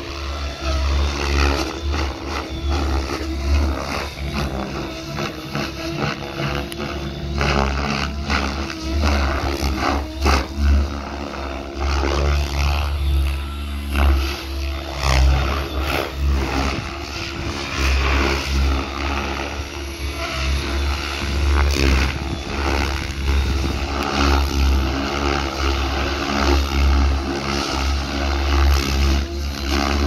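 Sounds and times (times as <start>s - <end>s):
model helicopter rotor and motor: 0.0s - 30.0s.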